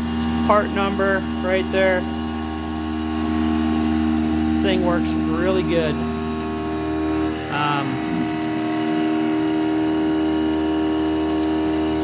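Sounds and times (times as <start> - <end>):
milling machine cutting steel whine: 0.0 - 12.0.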